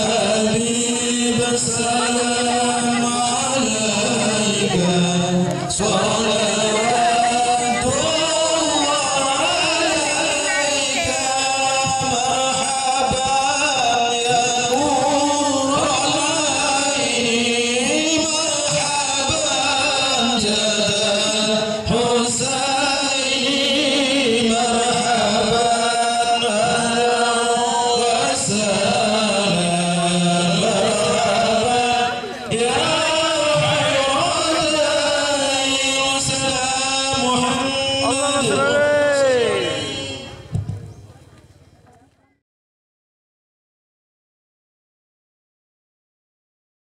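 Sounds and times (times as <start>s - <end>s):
group singing devotional chant: 0.0s - 40.5s.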